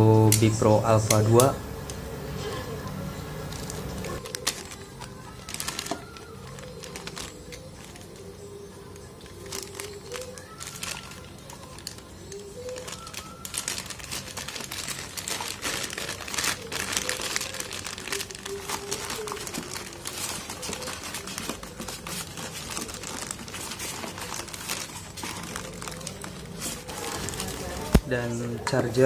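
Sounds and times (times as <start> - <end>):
plastic bags crinkling: 3.4 - 28.2.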